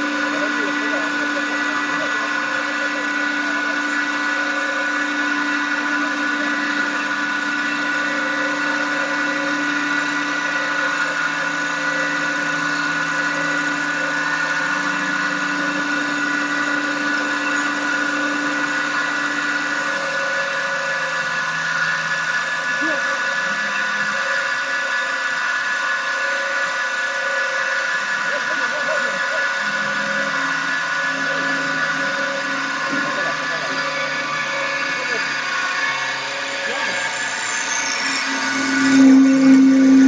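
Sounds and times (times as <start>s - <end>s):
low hum: 0.0s - 40.0s
machine whine: 0.0s - 40.0s.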